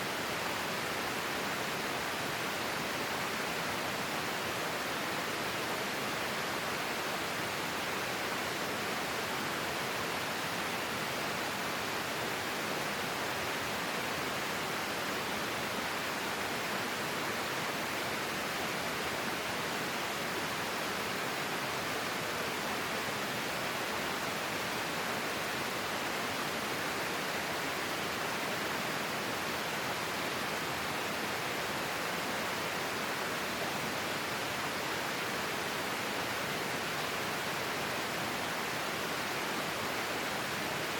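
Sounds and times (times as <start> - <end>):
stream of water flowing: 0.0 - 40.9.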